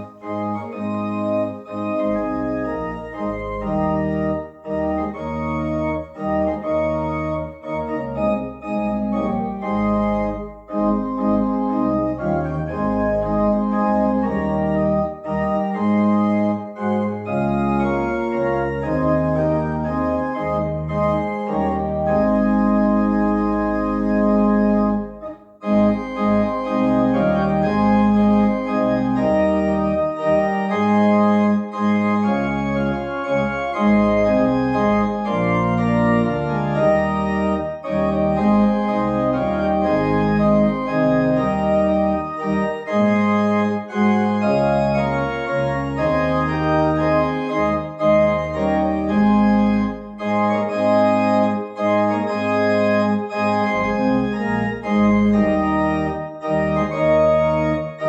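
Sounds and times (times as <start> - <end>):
organ playing chords: 0.0 - 58.0.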